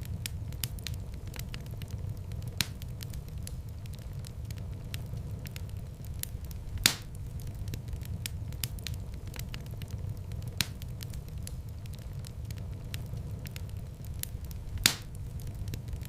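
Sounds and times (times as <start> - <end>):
fire crackling in a fireplace: 0.0 - 16.0
sharp pops of fire: 0.0 - 16.0.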